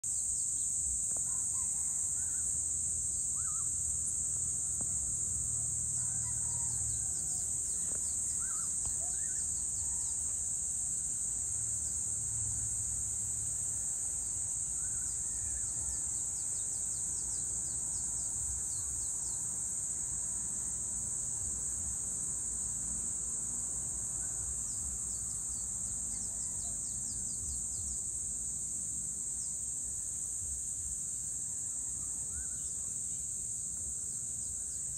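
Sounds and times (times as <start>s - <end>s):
insect chorus drone: 0.0s - 34.9s.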